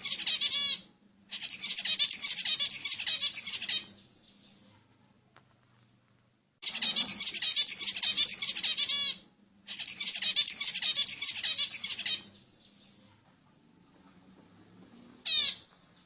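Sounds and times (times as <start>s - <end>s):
finch song: 0.0s - 5.1s, 6.6s - 16.0s.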